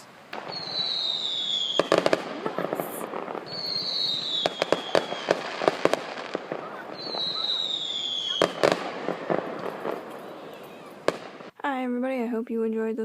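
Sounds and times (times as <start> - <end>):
firework crackling pops: 0.0 - 11.5
firework whistle falling: 0.0 - 11.5.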